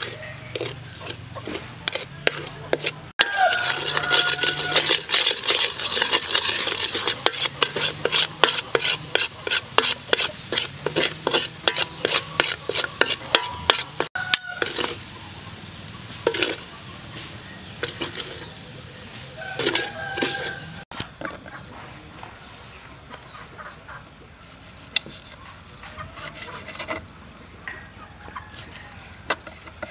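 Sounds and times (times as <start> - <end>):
spoon scraping a metal wok: 0.0 - 15.1, 16.2 - 18.6, 19.3 - 21.4, 24.4 - 27.5, 28.4 - 29.9.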